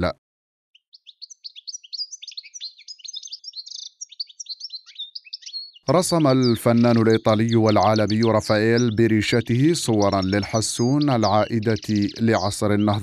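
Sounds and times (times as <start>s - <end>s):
bird twittering song: 0.7s - 13.0s.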